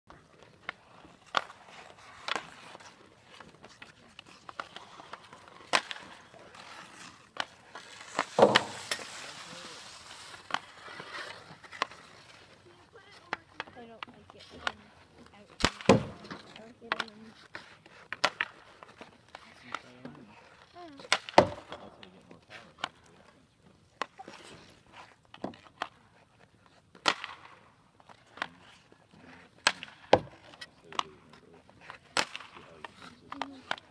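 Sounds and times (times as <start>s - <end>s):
hockey sticks slapping pucks: 0.1s - 33.9s.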